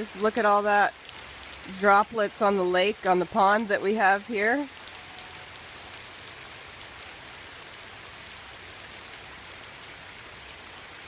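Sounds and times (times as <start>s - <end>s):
rain falling on pond: 0.0s - 11.0s.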